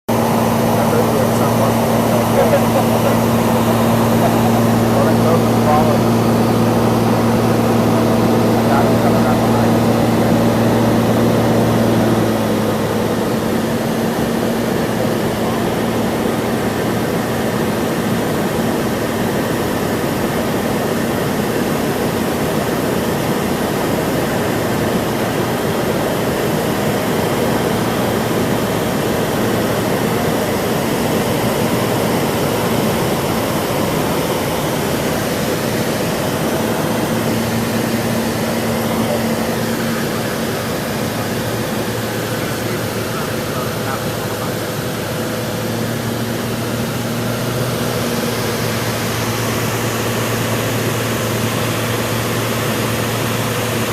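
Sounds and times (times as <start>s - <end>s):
propeller plane engine droning: 0.0s - 53.9s.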